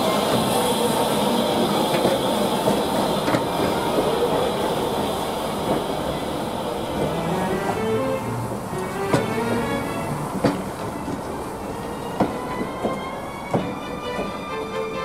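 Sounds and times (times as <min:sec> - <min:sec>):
train coaches rumbling and rattling: 0:00.0 - 0:15.0.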